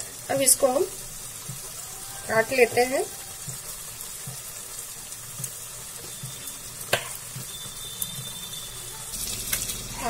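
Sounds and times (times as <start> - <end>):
masala sizzling and bubbling: 0.0 - 10.0.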